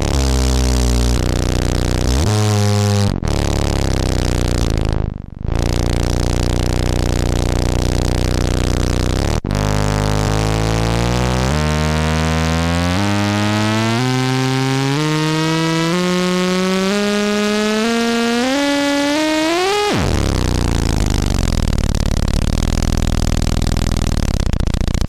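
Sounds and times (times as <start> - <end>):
distorted synth drone: 0.0 - 25.0.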